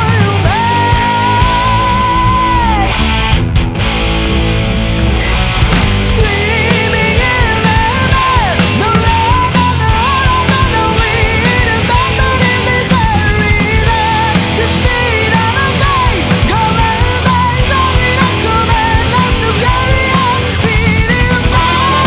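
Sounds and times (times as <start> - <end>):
bending lead guitar melody: 0.0 - 22.0
heavy rock band playing: 0.0 - 22.0.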